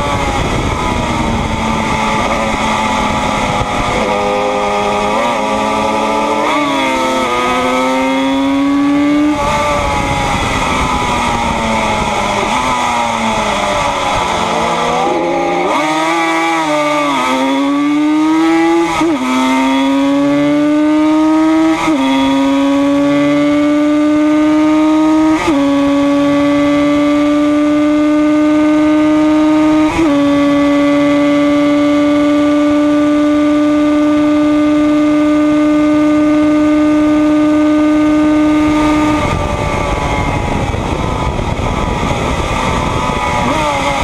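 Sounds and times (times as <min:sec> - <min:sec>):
motorcycle engine at high revs: 0:00.0 - 0:44.0.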